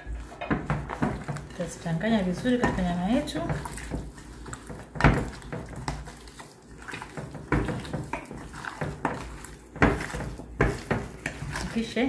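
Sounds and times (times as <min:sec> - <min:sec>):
wet squelching of meat: 0:00.2 - 0:12.0.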